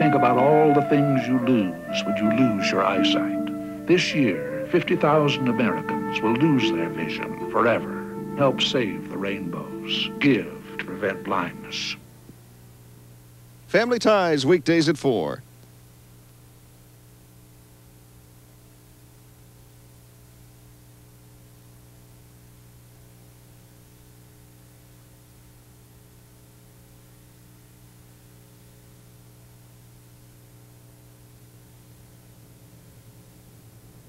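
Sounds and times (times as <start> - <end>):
electrical mains hum: 0.0 - 34.0
faint hiss: 0.0 - 34.0.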